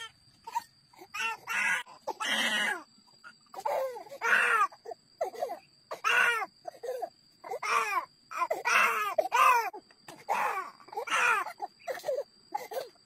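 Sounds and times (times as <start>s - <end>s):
baby crying: 0.0s - 2.9s, 3.5s - 13.0s.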